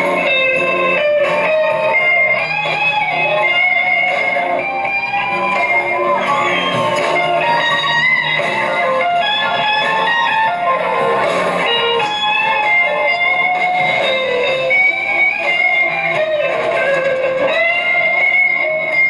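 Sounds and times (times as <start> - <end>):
band music with electric guitar: 0.0 - 19.0.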